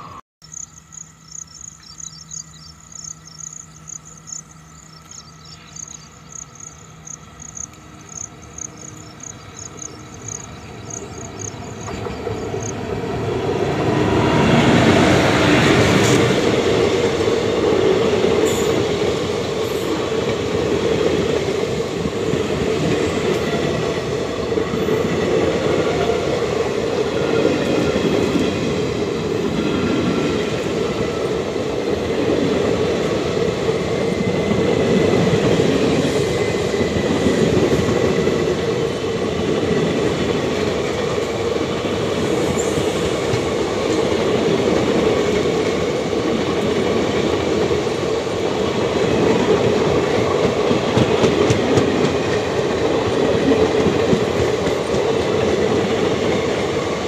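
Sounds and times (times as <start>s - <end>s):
insects chirping: 0.0s - 50.5s
train passing at speed: 0.0s - 57.0s.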